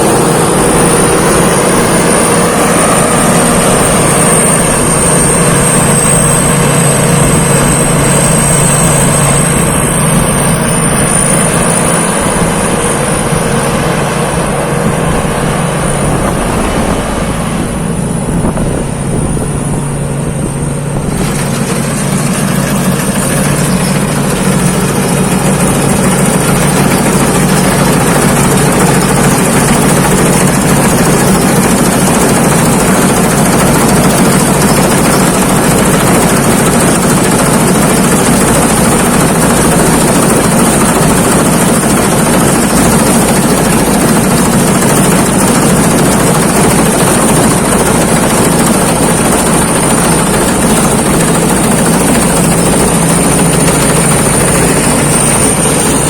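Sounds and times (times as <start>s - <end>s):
thin high whine: 0.0s - 33.0s, 33.6s - 56.0s
harvester engine drone: 0.0s - 56.0s.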